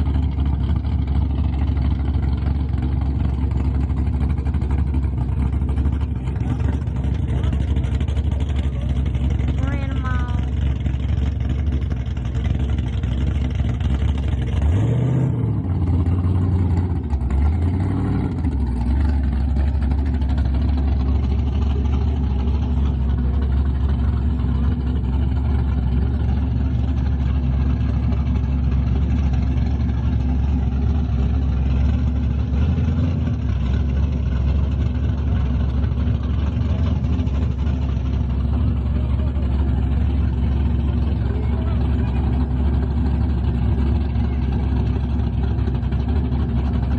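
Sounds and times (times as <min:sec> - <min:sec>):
car engine rumbling: 0:00.0 - 0:46.9.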